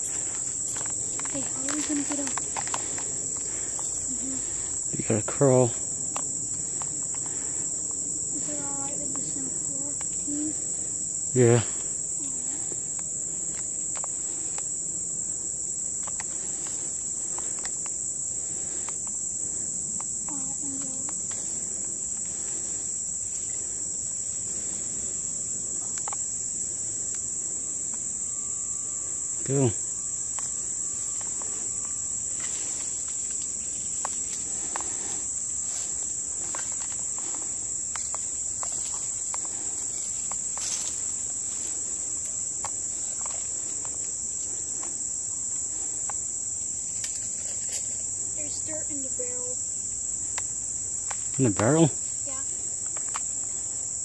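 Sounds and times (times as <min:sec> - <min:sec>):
leaves and twigs crackling: 0:00.0 - 0:48.3
insects chorus: 0:00.0 - 0:54.0.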